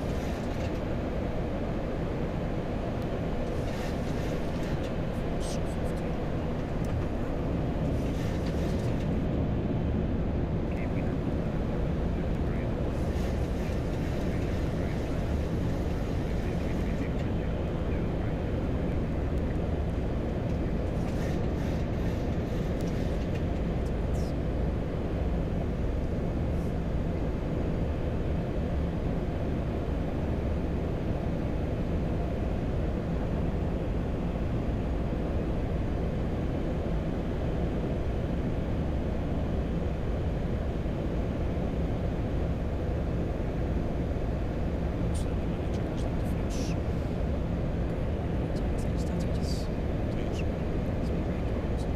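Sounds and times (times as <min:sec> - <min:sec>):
cockpit airflow and engine rumble: 0:00.0 - 0:51.9.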